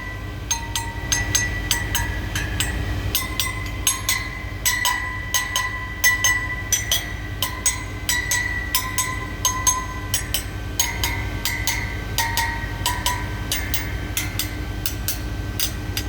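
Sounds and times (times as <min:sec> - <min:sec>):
low steady hum: 0:00.0 - 0:16.0
ringing metallic taps: 0:00.0 - 0:16.0.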